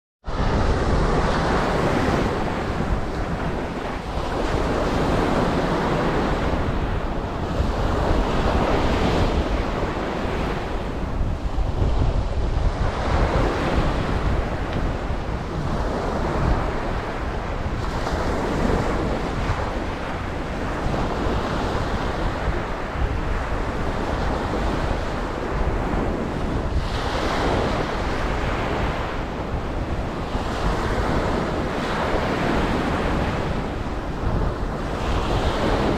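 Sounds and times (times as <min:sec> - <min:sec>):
wind buffeting microphone: 0:00.2 - 0:35.9
ocean waves breaking: 0:00.3 - 0:35.9.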